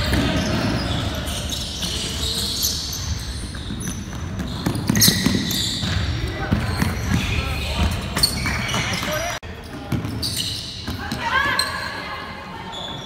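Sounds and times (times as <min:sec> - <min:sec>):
basketballs bouncing: 0:00.0 - 0:11.8.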